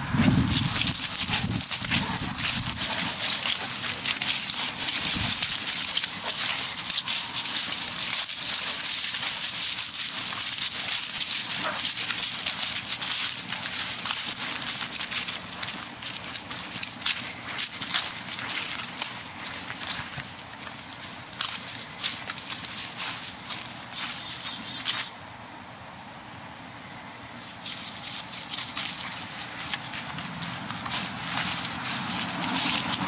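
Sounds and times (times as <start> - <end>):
footsteps through grass and leaves: 0.0 - 25.3, 27.3 - 33.0.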